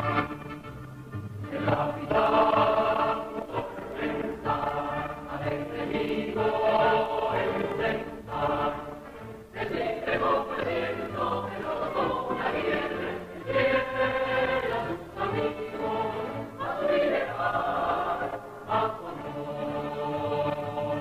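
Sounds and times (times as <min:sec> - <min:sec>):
instrumental backing music: 0:00.0 - 0:21.0
choir singing theme song: 0:01.4 - 0:21.0.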